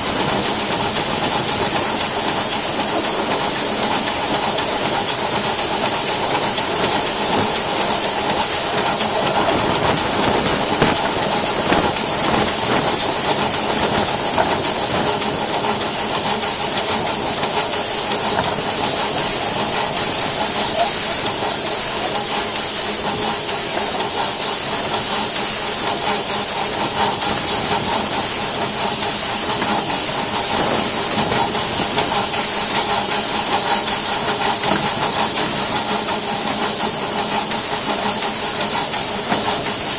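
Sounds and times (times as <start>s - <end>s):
steam locomotive hissing: 0.0s - 39.9s.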